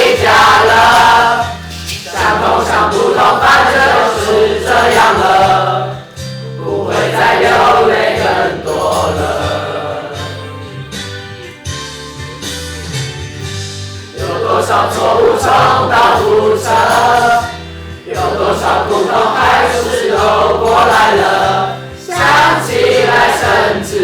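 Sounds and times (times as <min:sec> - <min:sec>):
group of voices singing: 0:00.0 - 0:10.9, 0:14.1 - 0:24.0
instrumental backing with bass: 0:00.0 - 0:24.0.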